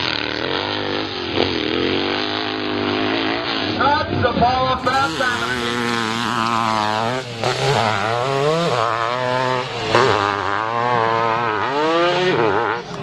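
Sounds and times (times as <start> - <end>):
motorcycle engine running hard: 0.0 - 13.0.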